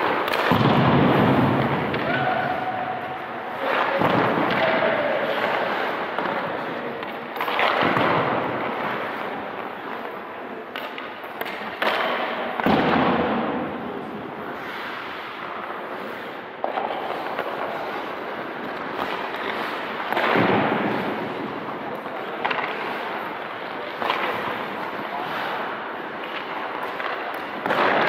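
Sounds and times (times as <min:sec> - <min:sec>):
pucks knocking: 0:00.0 - 0:02.6, 0:03.5 - 0:13.7, 0:16.6 - 0:28.0
skate blades scraping ice: 0:00.0 - 0:28.0.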